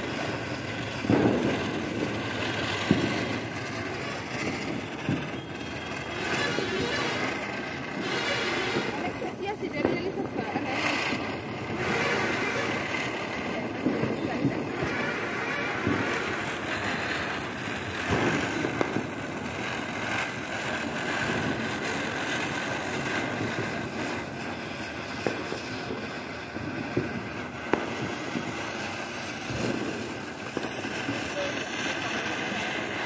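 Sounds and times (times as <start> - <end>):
fireworks fizzing and crackling: 0.0 - 33.0
sharp firework pops: 0.0 - 33.0.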